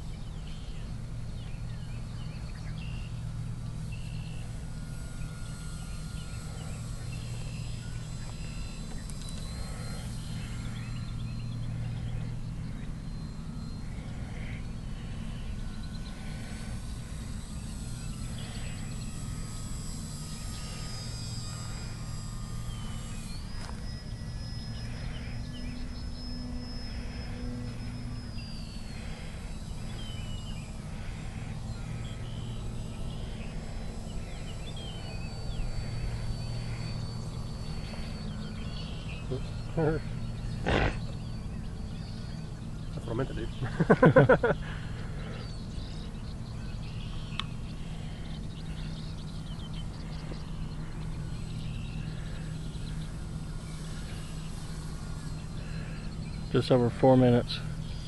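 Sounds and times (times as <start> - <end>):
model plane motor whining: 0.0 - 58.0
steady low rumble: 0.0 - 58.0.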